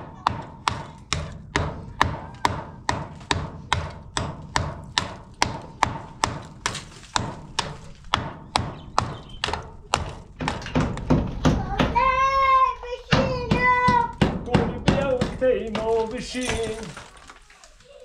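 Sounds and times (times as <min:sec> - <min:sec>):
hammer striking cinder block: 0:00.0 - 0:12.1, 0:13.1 - 0:17.0.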